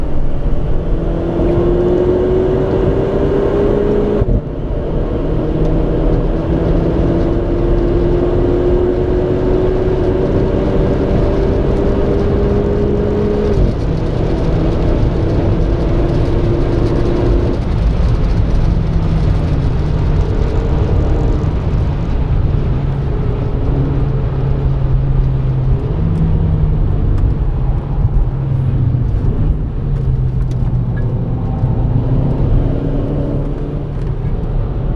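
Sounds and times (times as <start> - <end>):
car engine accelerating hard: 0.0 - 34.9.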